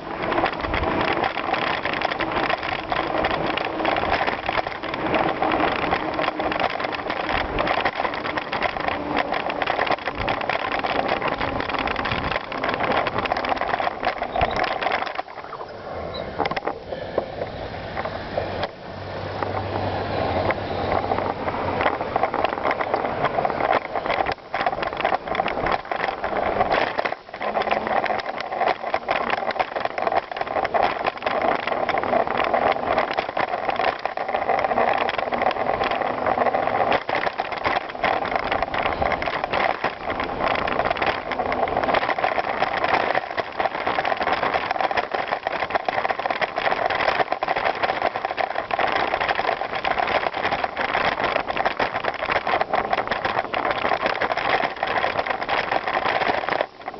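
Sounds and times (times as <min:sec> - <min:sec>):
bicycle rattling over rough ground: 0:00.0 - 0:56.9.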